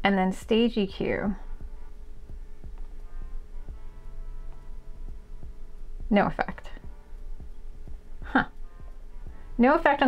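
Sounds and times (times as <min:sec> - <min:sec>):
low test tone hum: 0:00.0 - 0:10.0.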